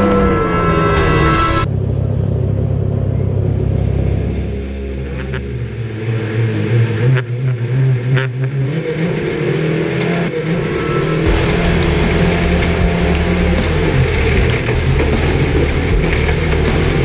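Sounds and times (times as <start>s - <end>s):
stock car engines running: 0.0s - 17.0s.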